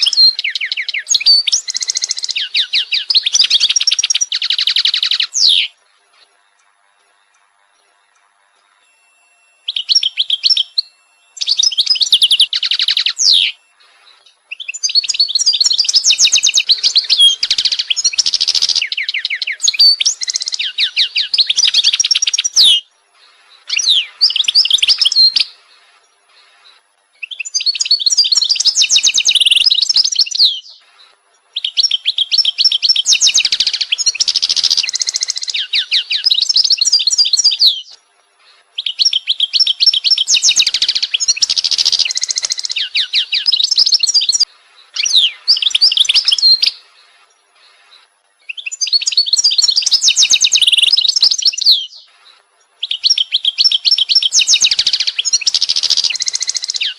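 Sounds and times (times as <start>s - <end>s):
bird chirping and trilling: 0.0s - 5.8s, 7.2s - 25.9s, 26.7s - 30.9s, 31.6s - 38.0s, 38.8s - 46.9s, 47.7s - 52.1s, 52.8s - 56.9s.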